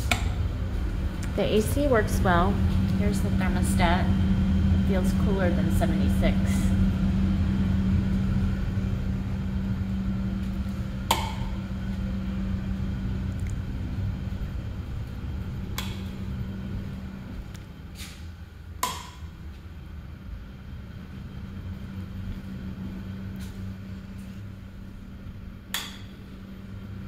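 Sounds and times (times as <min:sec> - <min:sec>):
air conditioning hum: 0:00.0 - 0:27.0.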